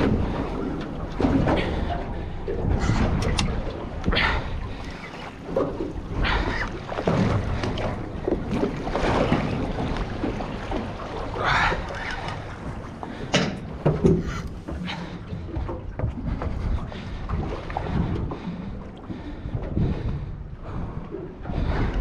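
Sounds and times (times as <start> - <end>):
wind buffeting microphone: 0.0 - 11.3, 12.4 - 22.0
knocks and splashes: 0.0 - 20.3
water slapping against boat: 0.0 - 22.0.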